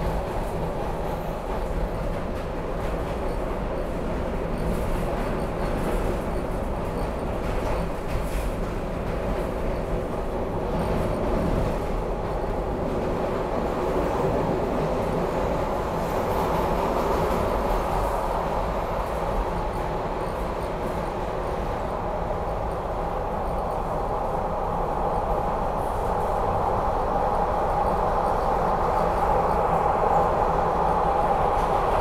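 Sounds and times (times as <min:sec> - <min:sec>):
subway train wheels on rails: 0:00.0 - 0:32.0.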